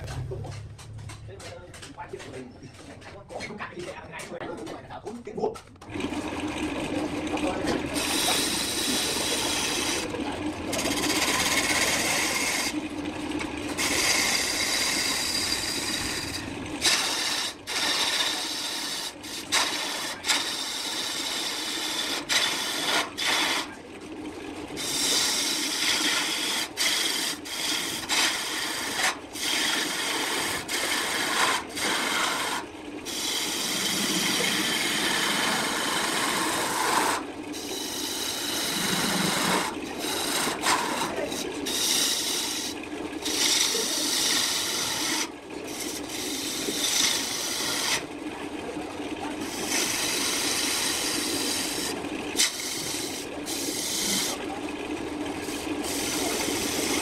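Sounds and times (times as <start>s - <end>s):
wood lathe running: 0.0s - 4.6s, 5.8s - 57.0s
gouge rasping on spinning wood: 6.8s - 23.8s, 24.6s - 48.1s, 49.3s - 54.5s, 55.2s - 57.0s.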